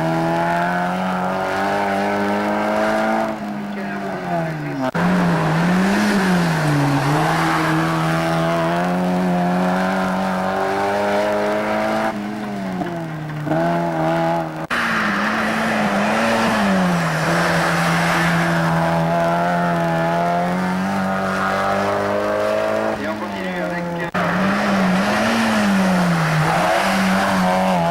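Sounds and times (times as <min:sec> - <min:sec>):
race car engine at high revs: 0:00.0 - 0:27.9.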